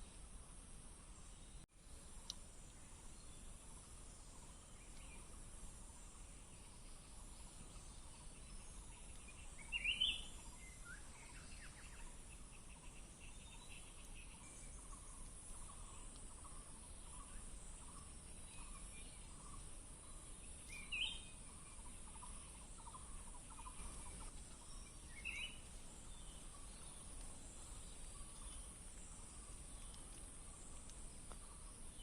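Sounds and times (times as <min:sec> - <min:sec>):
insect drone: 0:00.0 - 0:32.0
soft bird chirps: 0:01.1 - 0:32.0.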